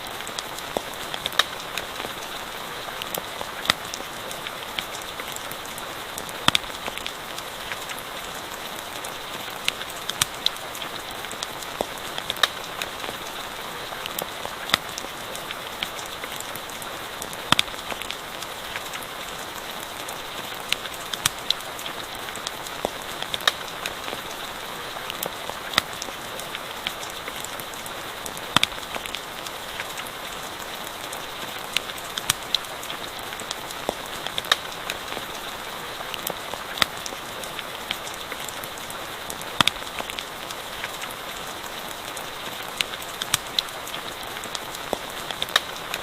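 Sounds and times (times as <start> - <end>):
campfire crackling: 0.0 - 46.0
steady rain: 0.0 - 46.0.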